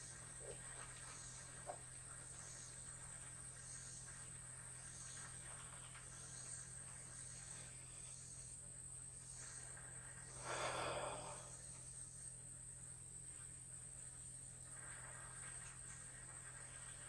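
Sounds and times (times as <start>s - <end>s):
insect chorus pulsing drone: 0.0s - 17.0s
low steady hum: 0.0s - 17.0s.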